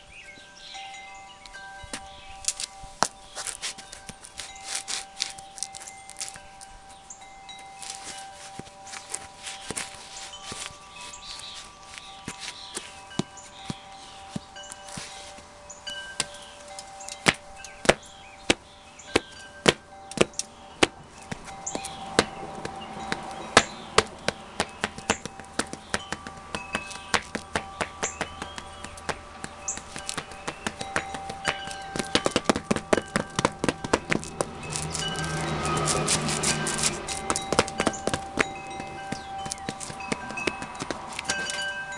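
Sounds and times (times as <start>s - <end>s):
wind chimes ringing: 0.0s - 41.9s
shoes tapping on concrete: 1.9s - 7.0s, 7.6s - 15.5s, 16.1s - 41.9s.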